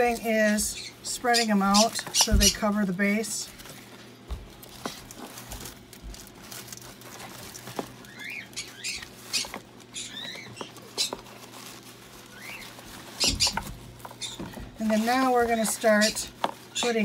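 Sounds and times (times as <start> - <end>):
paper napkins rustling: 0.0 - 17.0.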